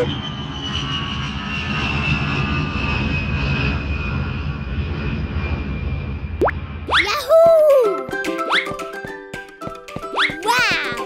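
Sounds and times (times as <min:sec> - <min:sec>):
cartoon jet engine whine: 0:00.0 - 0:08.9.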